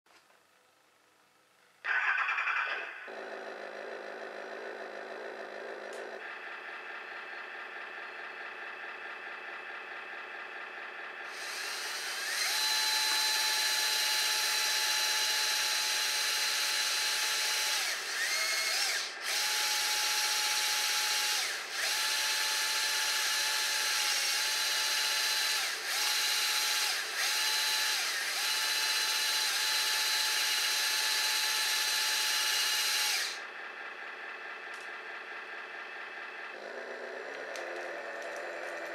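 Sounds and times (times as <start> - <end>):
electric motor and pump whine: 1.9 - 38.9.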